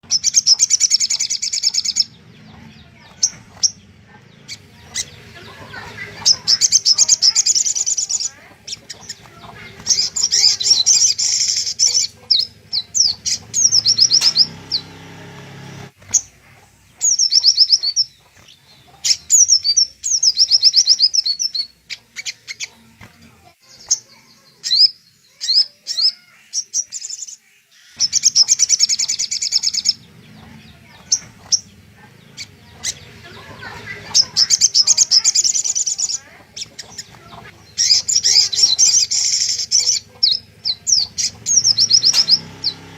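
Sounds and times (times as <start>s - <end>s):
bird singing high fast trills: 0.0s - 42.9s.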